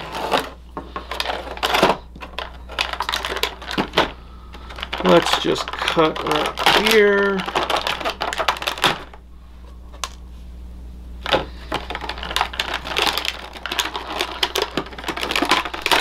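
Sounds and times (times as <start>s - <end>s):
plastic packaging crackling: 0.0s - 9.2s, 11.2s - 16.0s.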